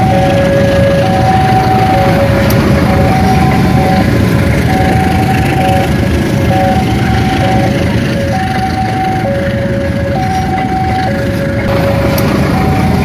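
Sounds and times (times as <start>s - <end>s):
level-crossing two-note alarm: 0.0s - 13.0s
train rumbling past: 0.0s - 13.0s.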